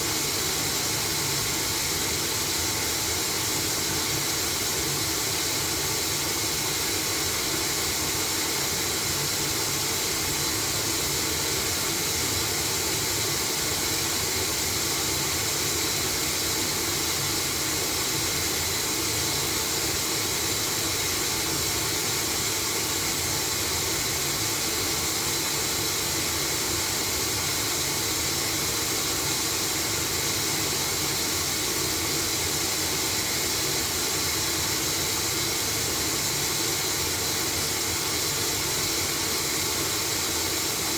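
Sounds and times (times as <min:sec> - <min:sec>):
washing machine hissing: 0:00.0 - 0:40.9.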